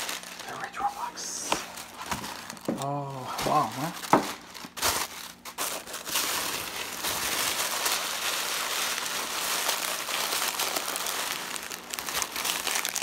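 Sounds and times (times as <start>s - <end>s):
tissue paper rustling: 0.0s - 13.0s.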